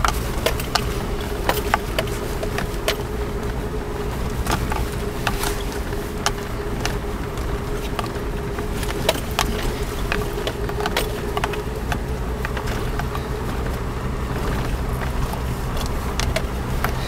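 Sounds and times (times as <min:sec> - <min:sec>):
engine running at low speed: 0:00.0 - 0:17.0
vehicle knocks and rattles: 0:00.0 - 0:17.0.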